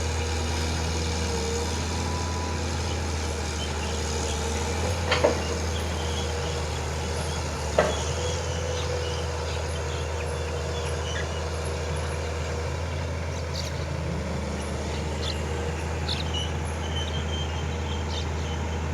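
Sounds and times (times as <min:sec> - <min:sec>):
diesel truck engine idling: 0:00.0 - 0:18.9.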